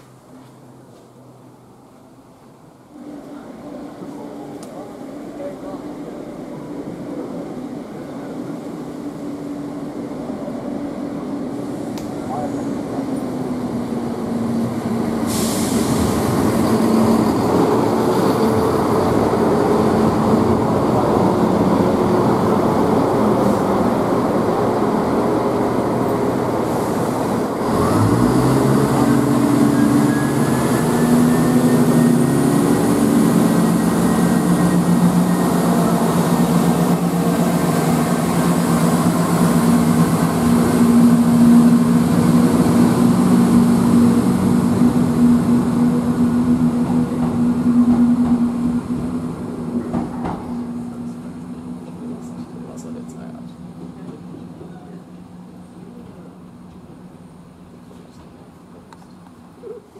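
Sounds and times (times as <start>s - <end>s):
diesel train engines: 0.0s - 59.9s.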